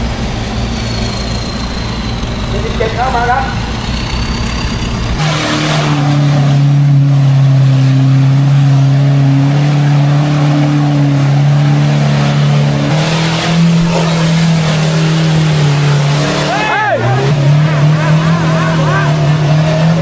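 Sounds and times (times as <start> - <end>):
diesel truck engine revving high: 0.0 - 20.0.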